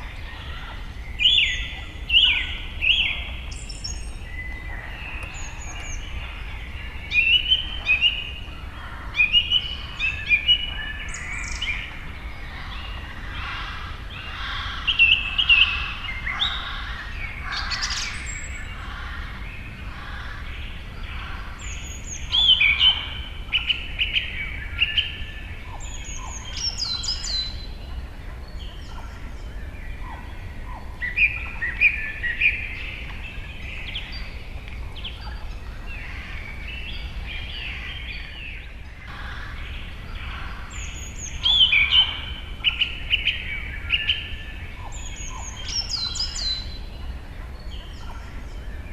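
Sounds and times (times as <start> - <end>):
birds singing and chirping: 0.0 - 48.9.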